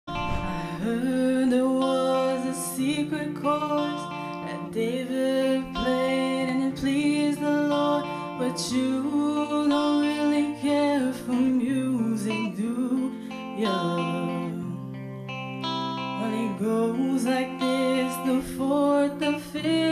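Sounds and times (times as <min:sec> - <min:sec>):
guitar: 0:00.0 - 0:19.9
woman singing: 0:00.1 - 0:19.9.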